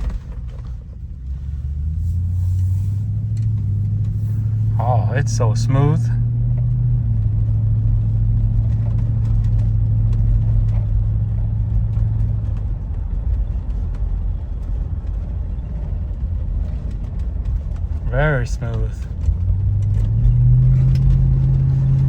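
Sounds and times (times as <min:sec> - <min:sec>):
car engine and exhaust drone: 0:00.0 - 0:22.0.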